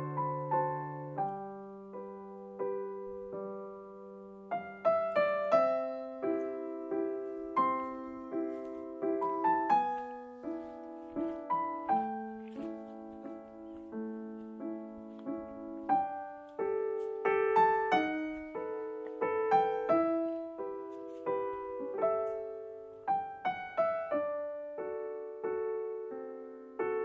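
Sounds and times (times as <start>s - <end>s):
piano melody over chords: 0.0s - 27.0s.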